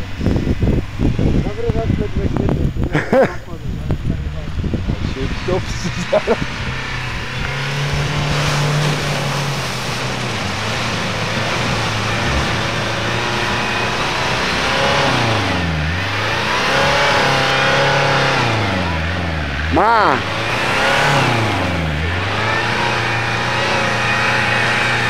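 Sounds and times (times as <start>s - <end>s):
engine working under load: 0.0s - 25.0s.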